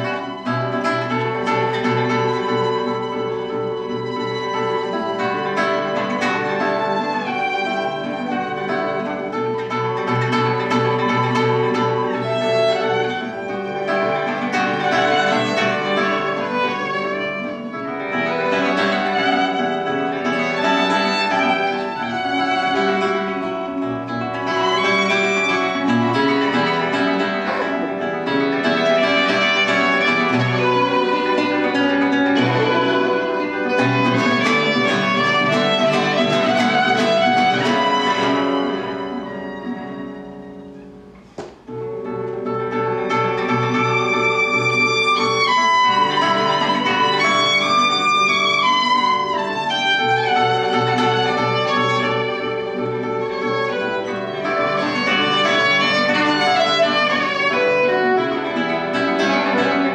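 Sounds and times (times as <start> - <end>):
plucked guitar: 0.0 - 59.9
violin melody: 0.0 - 59.9.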